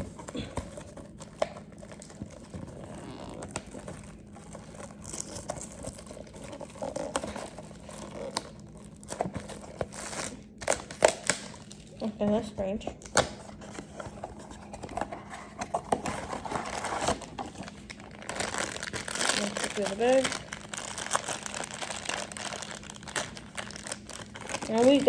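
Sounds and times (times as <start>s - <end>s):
packaging crinkling and rustling: 0.0s - 25.0s.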